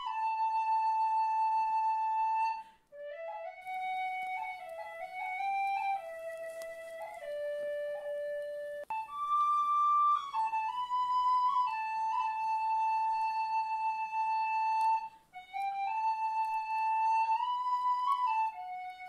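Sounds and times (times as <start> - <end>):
flute-like slow melody: 0.0 - 19.0.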